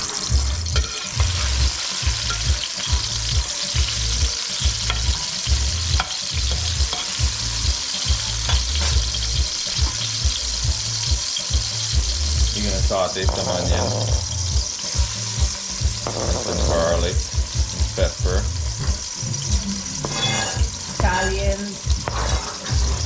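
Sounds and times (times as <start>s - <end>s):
low pulsing beat: 0.0s - 23.0s
tomatoes sizzling in oil: 0.0s - 23.0s.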